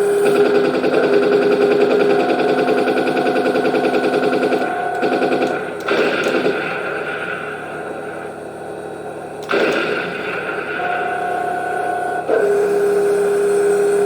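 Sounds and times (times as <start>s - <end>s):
machine-gun sound effect: 0.0s - 8.6s, 9.4s - 13.0s.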